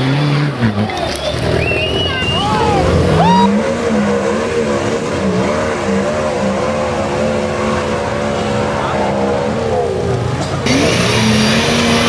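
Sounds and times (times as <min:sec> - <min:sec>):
vehicle engine revving hard: 0:00.0 - 0:12.0.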